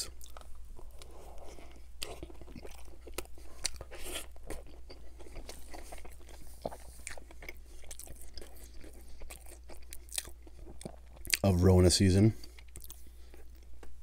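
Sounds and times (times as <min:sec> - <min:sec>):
chewing and crunching: 0:00.0 - 0:11.6, 0:12.3 - 0:14.0.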